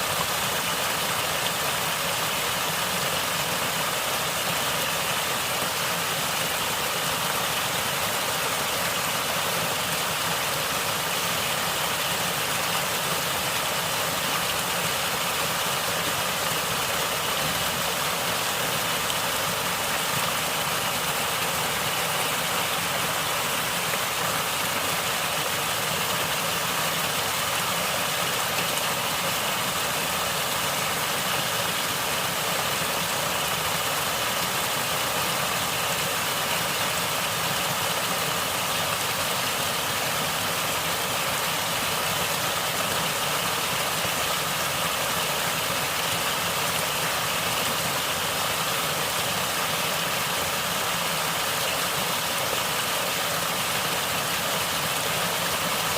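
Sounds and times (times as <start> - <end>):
water flowing and gurgling: 0.0 - 55.9.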